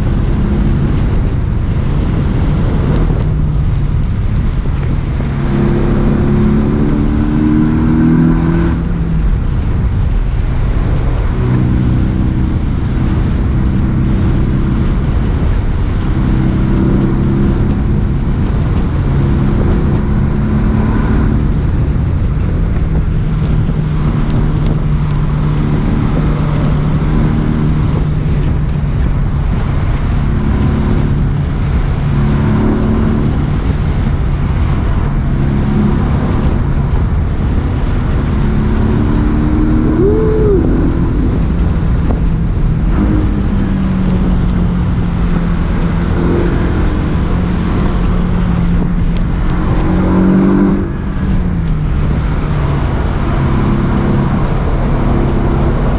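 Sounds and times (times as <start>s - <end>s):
car engine running: 0.0s - 55.9s
road and wind noise: 0.0s - 55.9s.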